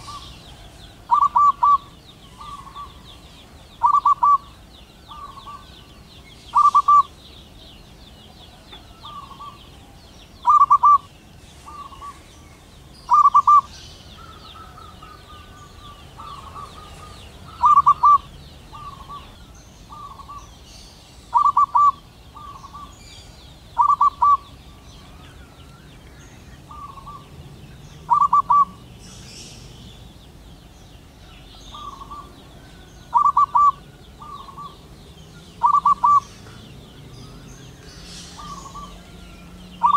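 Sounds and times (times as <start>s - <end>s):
dove cooing: 0.0s - 5.9s, 6.5s - 7.6s, 8.2s - 12.4s, 13.1s - 20.5s, 21.3s - 23.0s, 23.7s - 25.5s, 26.5s - 29.6s, 31.7s - 36.7s, 38.0s - 39.9s.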